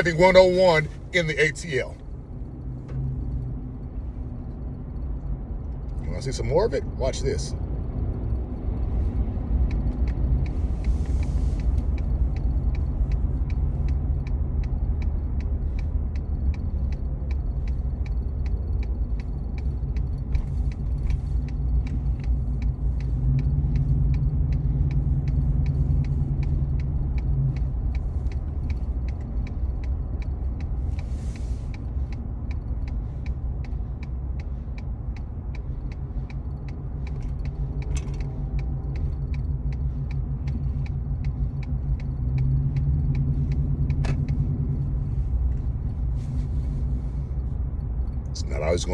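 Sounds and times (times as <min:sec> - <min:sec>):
engine and tyre rumble: 0:00.0 - 0:48.9
turn signal ticking: 0:00.0 - 0:48.9.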